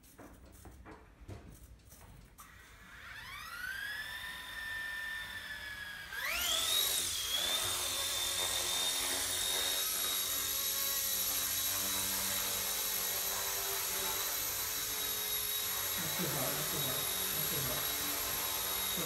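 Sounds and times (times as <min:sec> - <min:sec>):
rc helicopter motor whine: 0:02.4 - 0:19.0.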